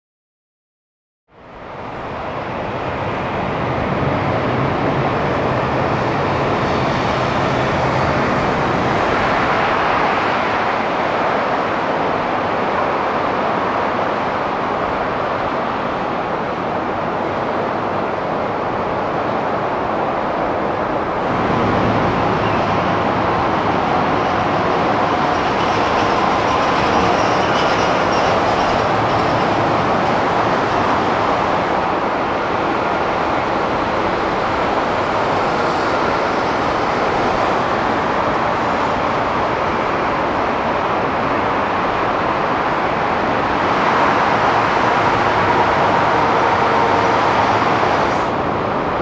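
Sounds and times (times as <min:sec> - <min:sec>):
rushing airport apron noise: 0:01.6 - 0:49.0.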